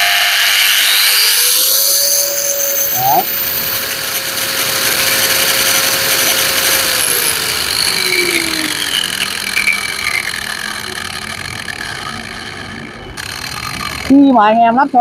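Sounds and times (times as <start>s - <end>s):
wall chaser motor whine: 0.0s - 15.0s.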